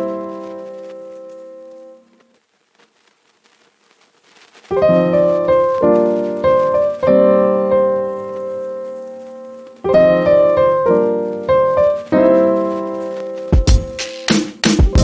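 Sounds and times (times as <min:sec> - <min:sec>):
piano music: 0:00.0 - 0:02.2, 0:04.7 - 0:15.0.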